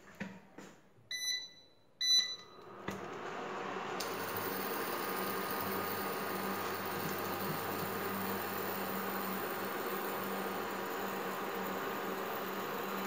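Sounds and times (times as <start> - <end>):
cooling fan humming: 2.0 - 13.0.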